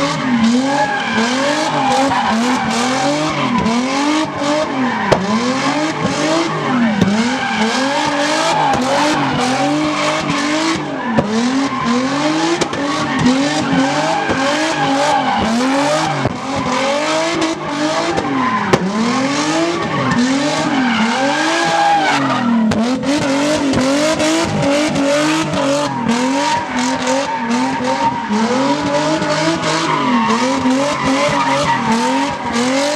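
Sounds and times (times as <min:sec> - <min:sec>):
vehicle engine revving hard: 0:00.0 - 0:32.9.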